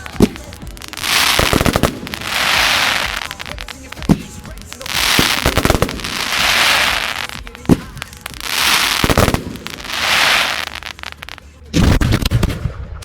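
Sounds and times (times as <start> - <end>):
fireworks hissing crackle: 0.0 - 12.4
fireworks bangs: 0.0 - 13.0.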